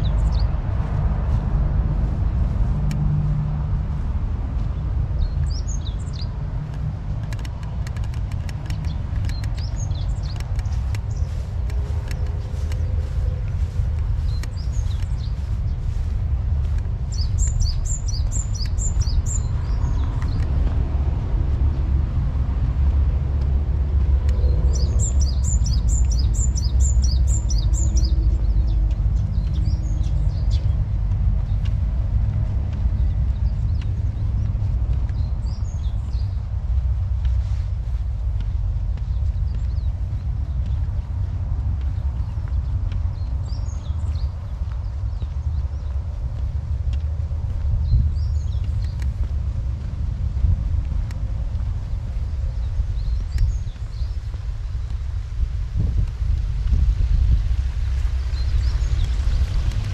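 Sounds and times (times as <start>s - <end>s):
low rumble: 0.0s - 59.9s
songbird singing: 0.0s - 59.9s.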